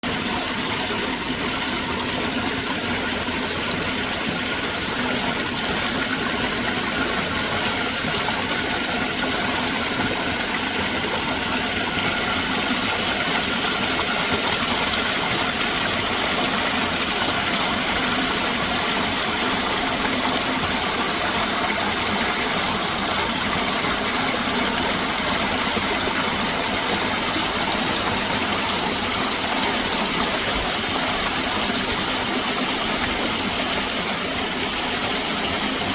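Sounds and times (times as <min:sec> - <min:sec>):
water rushing: 0:00.0 - 0:35.9.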